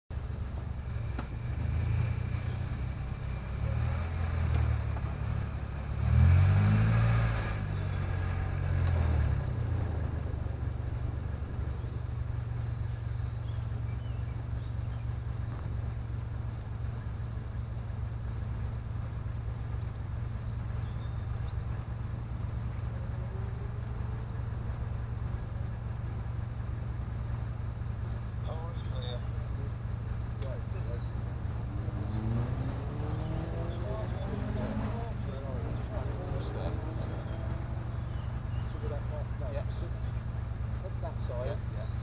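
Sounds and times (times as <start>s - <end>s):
car engine idling: 0.1s - 42.0s
engine revving: 0.8s - 42.0s.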